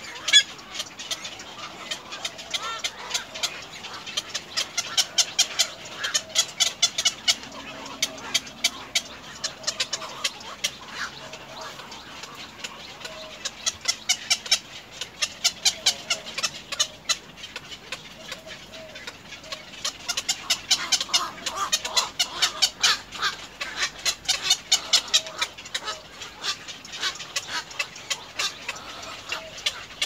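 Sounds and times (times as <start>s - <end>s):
egrets clicking calls: 0.0s - 30.0s
low egret call: 0.0s - 30.0s.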